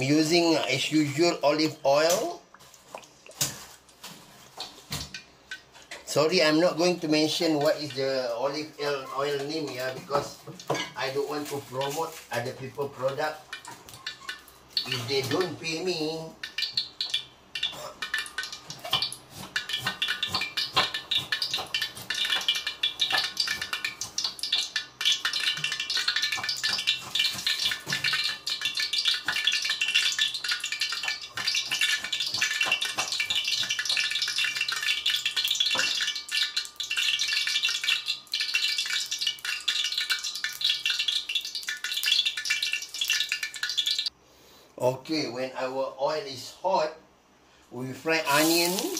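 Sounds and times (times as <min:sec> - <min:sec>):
oil crackling and spattering: 0:02.6 - 0:44.1, 0:48.2 - 0:48.9.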